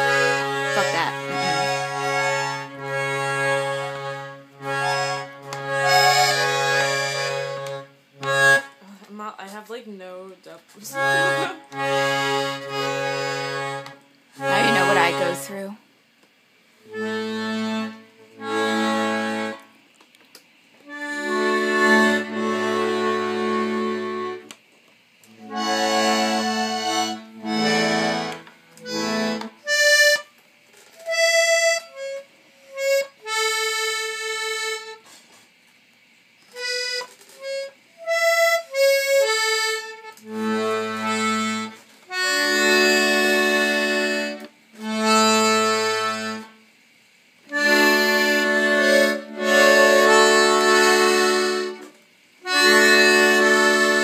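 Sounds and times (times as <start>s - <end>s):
button accordion playing: 0.0s - 8.8s, 10.8s - 15.6s, 16.8s - 19.8s, 20.8s - 24.6s, 25.4s - 30.4s, 31.0s - 35.2s, 36.5s - 46.6s, 47.5s - 54.0s.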